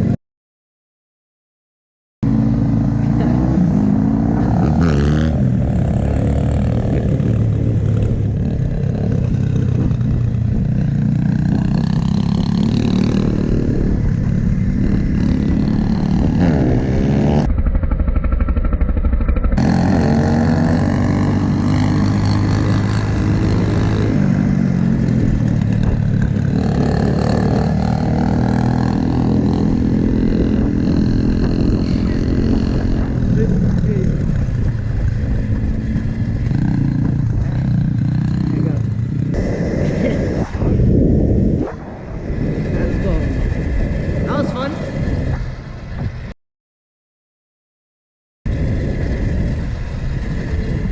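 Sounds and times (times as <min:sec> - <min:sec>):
dirt bike engines revving: 0:02.2 - 0:46.0.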